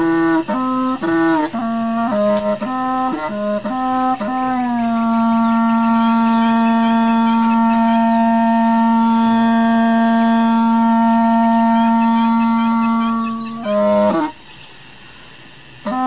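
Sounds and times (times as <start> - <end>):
bamboo reed pipe note: 0.0 - 14.4.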